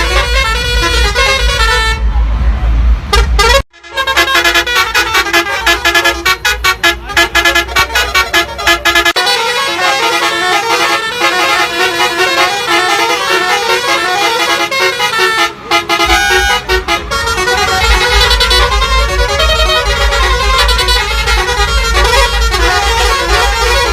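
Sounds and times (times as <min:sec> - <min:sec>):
musical air horns playing melody: 0:00.0 - 0:02.0, 0:03.1 - 0:23.9.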